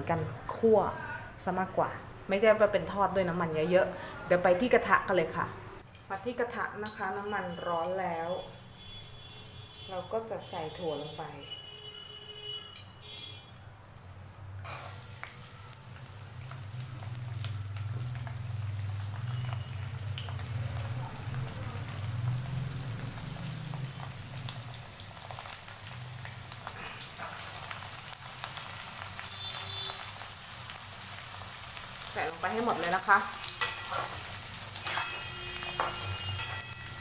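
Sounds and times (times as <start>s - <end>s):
chickpeas sizzling in hot oil: 5.8s - 37.0s.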